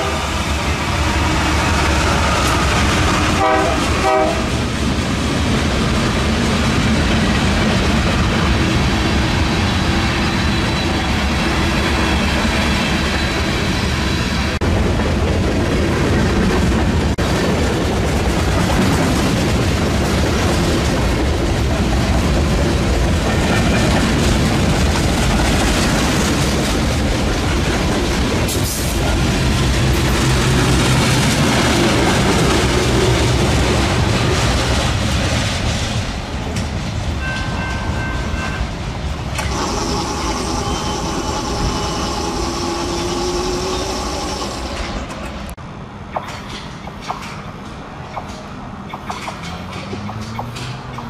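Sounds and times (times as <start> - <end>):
freight train rumbling over rails: 0.0 - 51.0.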